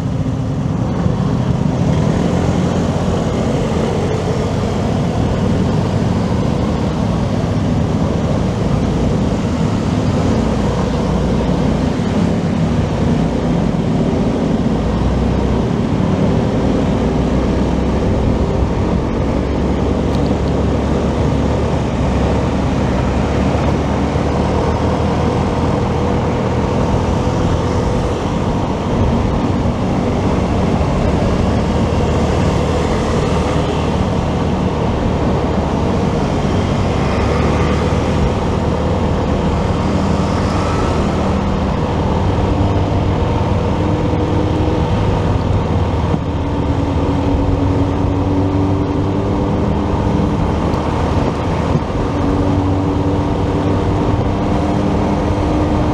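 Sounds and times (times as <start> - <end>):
motorcycle engine and road noise: 0.0 - 55.9.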